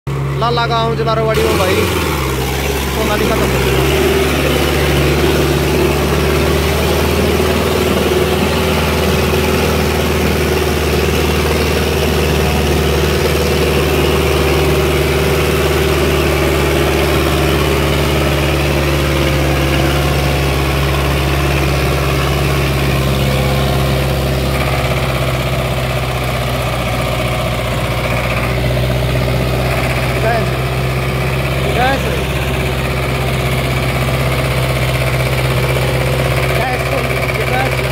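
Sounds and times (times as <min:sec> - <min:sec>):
tractor diesel engine under load: 0:00.1 - 0:37.9.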